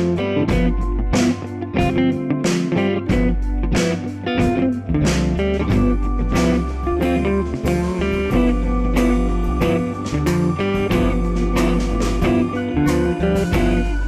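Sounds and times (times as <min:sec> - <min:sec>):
guitar-led instrumental music: 0:00.0 - 0:14.0
heavy bass line: 0:00.0 - 0:14.0.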